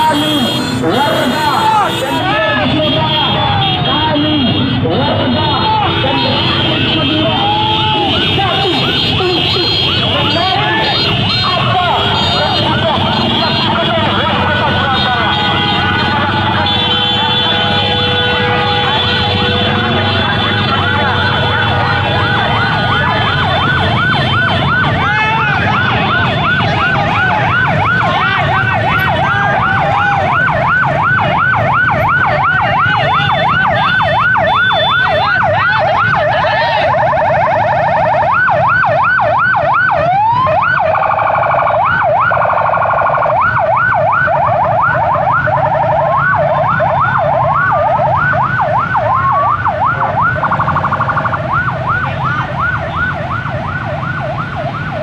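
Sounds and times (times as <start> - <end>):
electronic sirens yelping: 0.0 - 55.0
motorcycle engines rumbling: 0.0 - 55.0.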